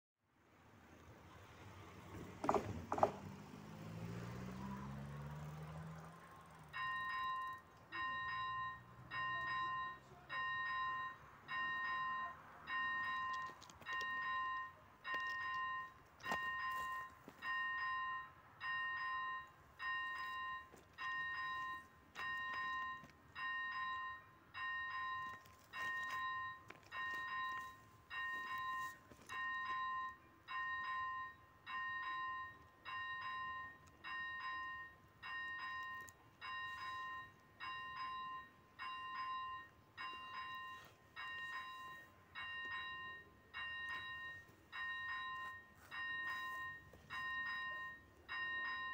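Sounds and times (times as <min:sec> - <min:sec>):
electronic warning bell dinging: 0:04.3 - 0:48.9.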